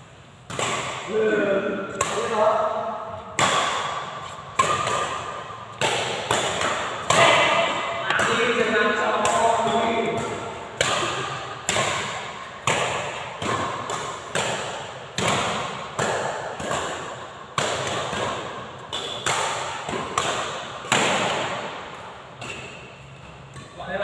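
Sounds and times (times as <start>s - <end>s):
rackets hitting shuttlecock: 0.3s - 24.0s.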